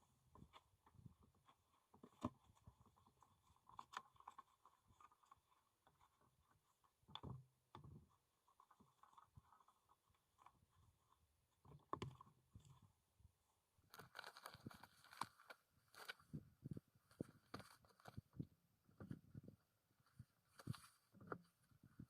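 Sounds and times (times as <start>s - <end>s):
faint clicks and soft knocks: 0.0s - 22.0s.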